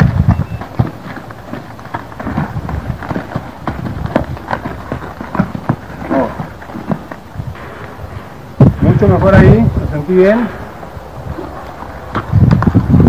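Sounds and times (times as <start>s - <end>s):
horse hooves in loose sand: 0.0s - 13.0s.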